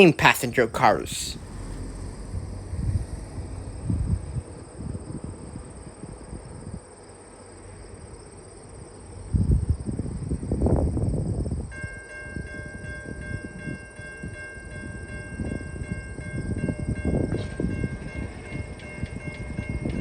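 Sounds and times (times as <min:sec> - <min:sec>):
wind buffeting microphone: 0:01.4 - 0:06.8, 0:09.2 - 0:20.0.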